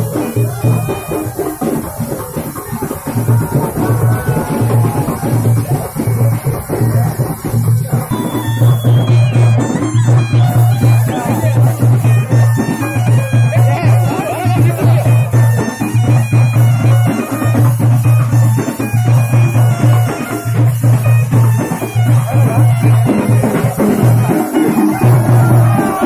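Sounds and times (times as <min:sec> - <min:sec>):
barrel drums beating: 0:00.0 - 0:26.0
reed wind instrument melody: 0:00.0 - 0:26.0.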